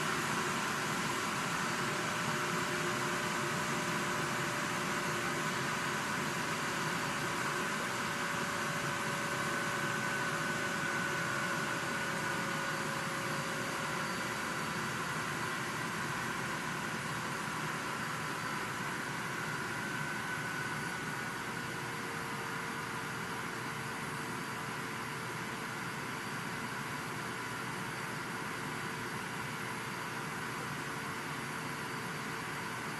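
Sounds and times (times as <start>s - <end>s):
server cooling fans whining: 0.0s - 32.9s.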